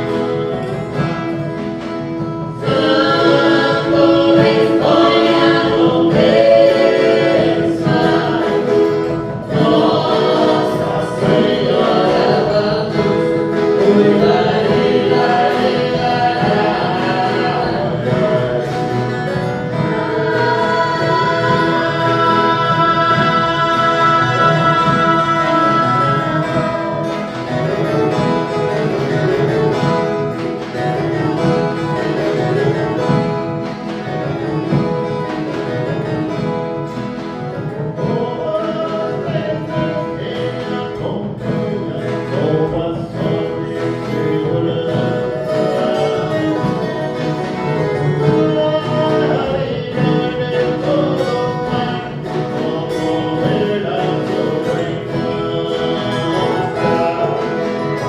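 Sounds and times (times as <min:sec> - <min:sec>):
plucked guitar strings: 0:00.0 - 0:58.0
voices singing: 0:00.0 - 0:58.0.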